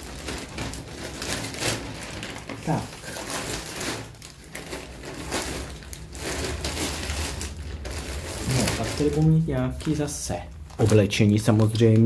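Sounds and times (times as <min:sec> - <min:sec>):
plastic packaging crinkling: 0:00.0 - 0:12.0
sharp crackles: 0:00.0 - 0:12.0.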